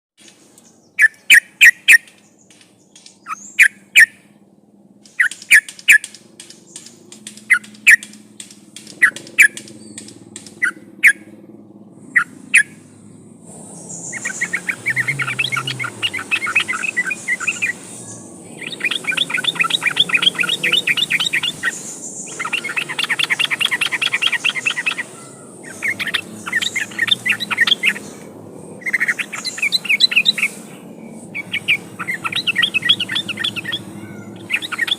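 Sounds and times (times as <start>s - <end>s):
bird song with chattering phrases: 0.2s - 34.9s.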